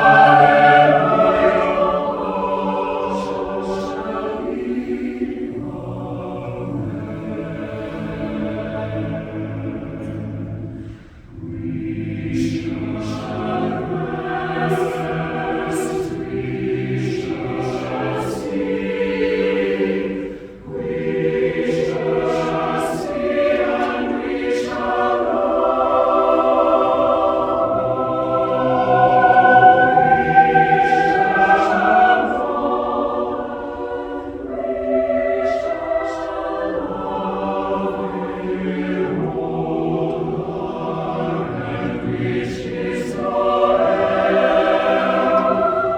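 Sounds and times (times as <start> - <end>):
choir singing chords: 0.0 - 45.9.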